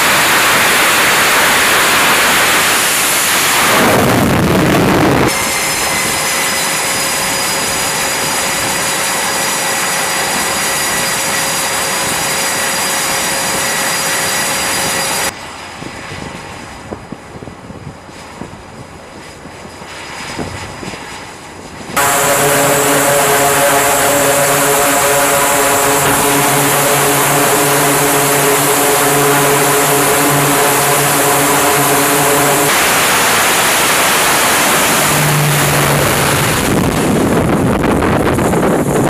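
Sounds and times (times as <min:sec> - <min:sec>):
turboprop engines droning: 0:00.0 - 0:15.7, 0:21.8 - 0:39.0.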